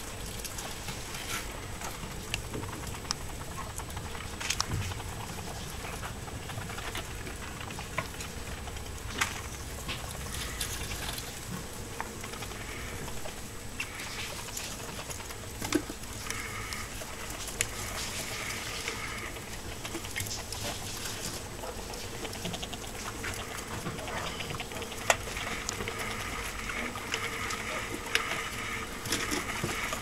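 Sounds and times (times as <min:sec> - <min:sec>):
mice rustling in bedding: 0:00.0 - 0:30.0
small clicks and scratches: 0:00.0 - 0:30.0.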